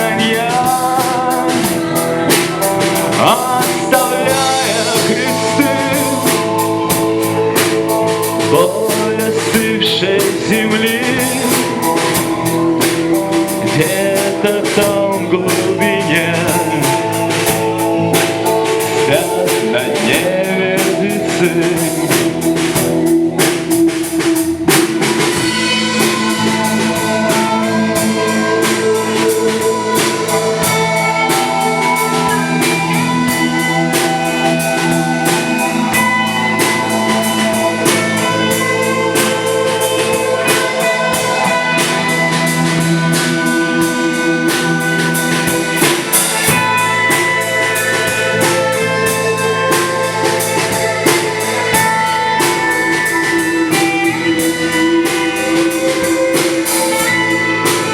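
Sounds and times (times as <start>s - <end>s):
drum kit beat: 0.0s - 57.9s
sustained electric guitar notes: 0.0s - 57.9s.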